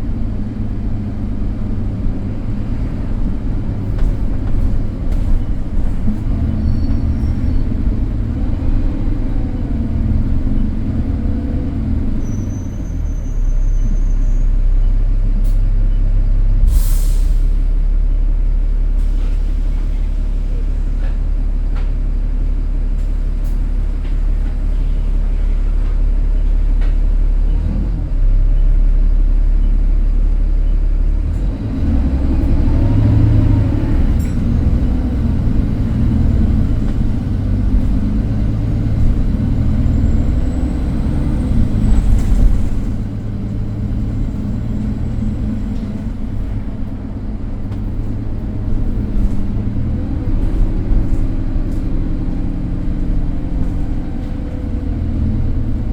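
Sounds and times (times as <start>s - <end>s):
bus body rattling: 0.0s - 14.2s, 19.0s - 27.3s, 32.3s - 55.9s
bus engine droning and revving: 0.0s - 55.9s.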